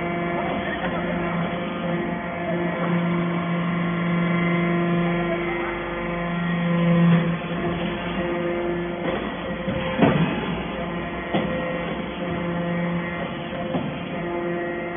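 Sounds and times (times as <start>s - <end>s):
hydraulic hum: 0.0s - 14.9s.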